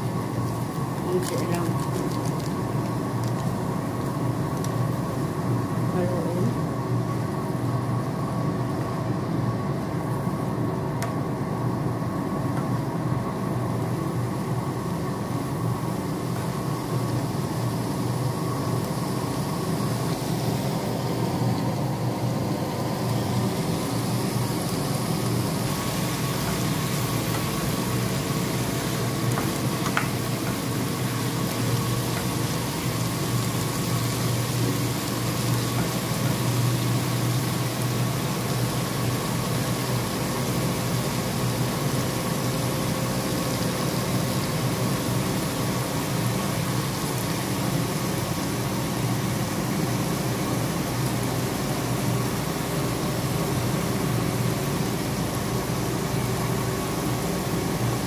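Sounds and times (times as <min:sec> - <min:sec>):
cabbage stir-frying in pan: 0:00.0 - 0:58.0
low mechanical hum: 0:00.0 - 0:58.0.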